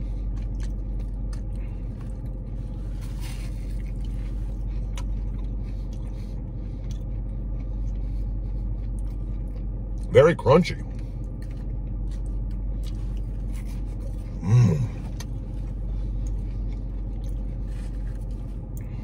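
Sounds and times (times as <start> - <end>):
crunchy chewing: 0.0 - 10.1, 10.8 - 19.0
car engine humming: 0.0 - 19.0.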